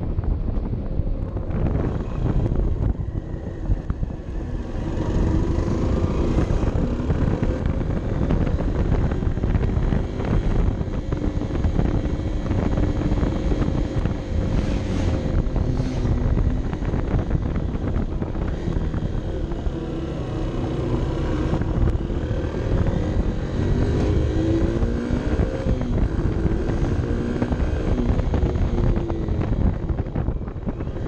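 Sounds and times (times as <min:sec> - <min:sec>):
motorcycle engine running: 0:00.0 - 0:31.0
wind rumble on microphone: 0:00.0 - 0:31.0.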